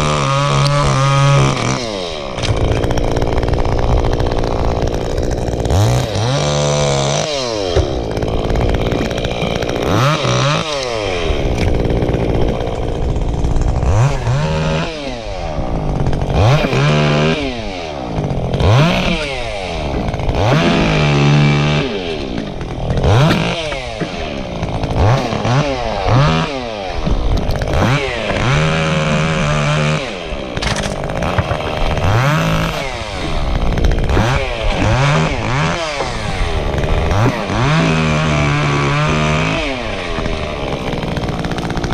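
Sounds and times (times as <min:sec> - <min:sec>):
chainsaw revving and idling: 0:00.0 - 0:41.9.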